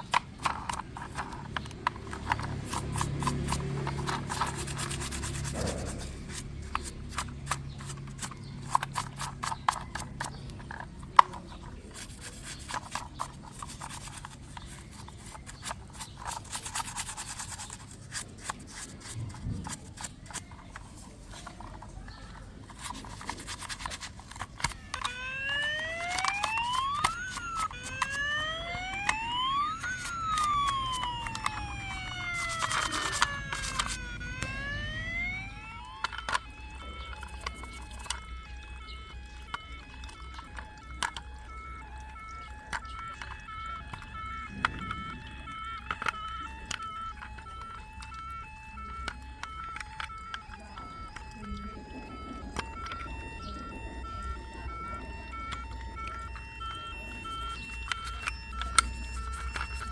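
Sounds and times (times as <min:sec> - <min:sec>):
plastic toy clicking and rubbing: 0:00.0 - 0:59.9
toy police siren wailing: 0:00.0 - 0:59.9.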